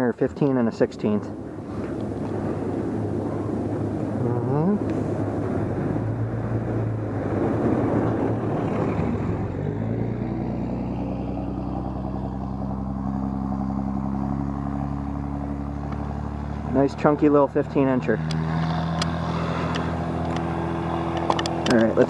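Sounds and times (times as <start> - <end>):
car engine humming: 0.0 - 22.0
car rushing past: 1.3 - 22.0.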